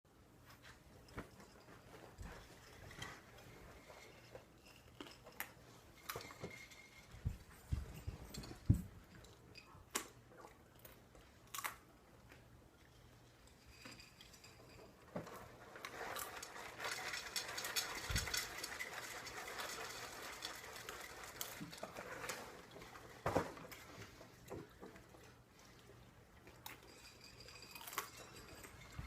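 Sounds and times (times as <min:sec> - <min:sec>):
clatter and rustle: 0:00.4 - 0:11.4, 0:12.8 - 0:29.0.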